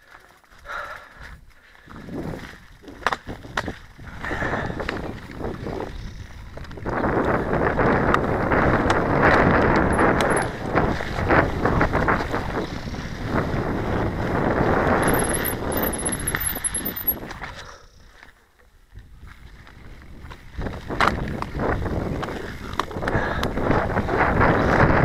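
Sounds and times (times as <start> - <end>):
bike rattling over bumps: 0.0 - 25.0
bike tyres on dirt: 0.0 - 25.0
wind rushing on microphone: 1.2 - 17.7, 18.9 - 25.0.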